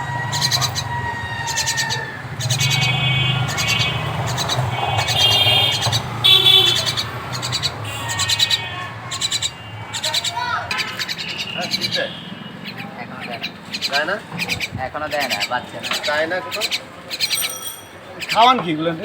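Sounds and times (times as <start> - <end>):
myna chirping calls: 0.0 - 18.6.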